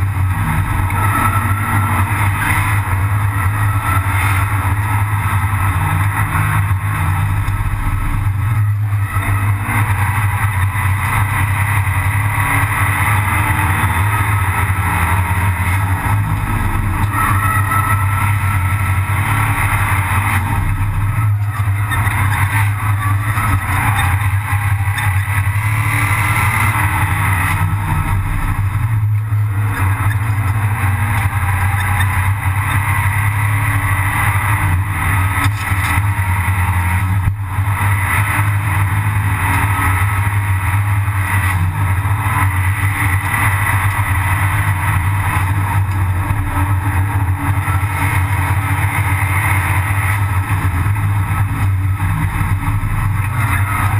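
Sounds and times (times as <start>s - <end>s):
race car engine running hard: 0.0s - 53.9s.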